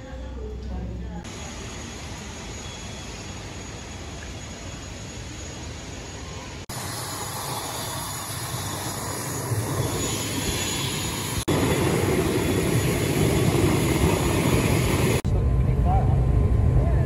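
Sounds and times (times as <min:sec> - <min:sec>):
turboprop airliner engines running: 0:00.2 - 0:17.0.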